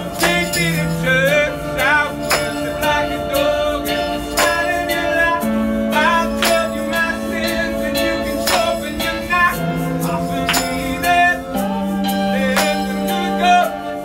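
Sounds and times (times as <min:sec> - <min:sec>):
electronic keyboard chords: 0:00.0 - 0:14.0
man singing: 0:00.0 - 0:14.0
sharp percussive beat: 0:00.0 - 0:14.0.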